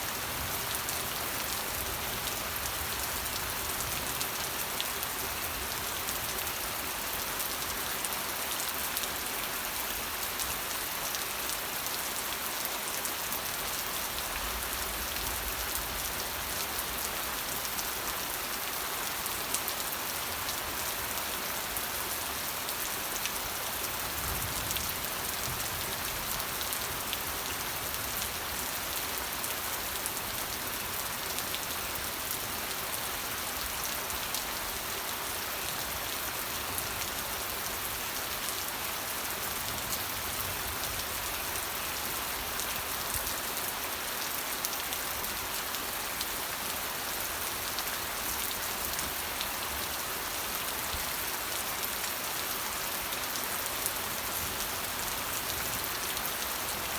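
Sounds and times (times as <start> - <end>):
rain pattering on a surface: 0.0 - 56.9.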